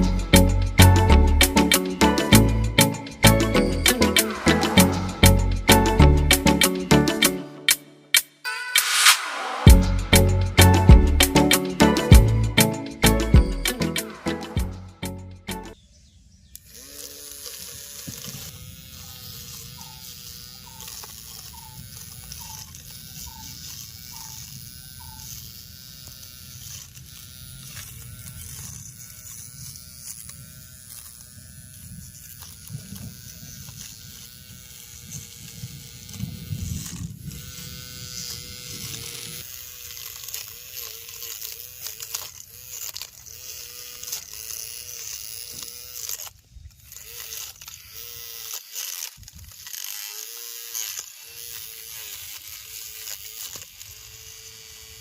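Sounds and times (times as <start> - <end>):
small electric motor whining: 0.0 - 7.4, 8.5 - 15.6, 16.5 - 55.0.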